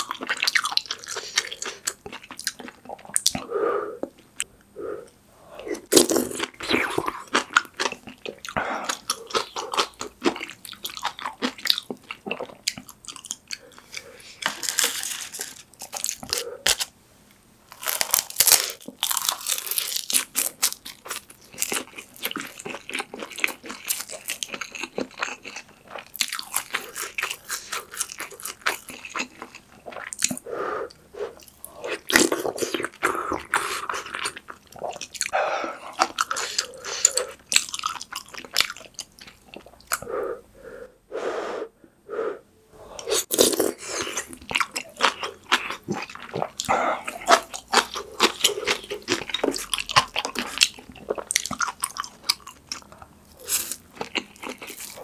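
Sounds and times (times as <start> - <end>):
person chewing with wet mouth sounds: 0.0 - 16.9, 17.8 - 40.1, 42.9 - 55.0.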